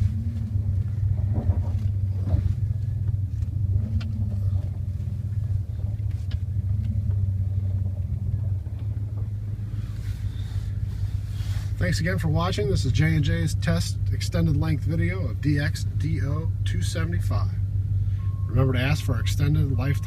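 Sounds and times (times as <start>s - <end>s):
truck engine running at low revs: 0.0s - 20.0s.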